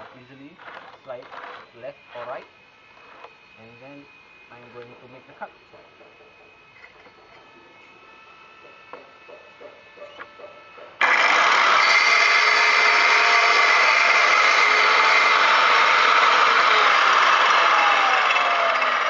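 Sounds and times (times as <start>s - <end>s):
miter saw cutting stone: 0.0s - 19.0s.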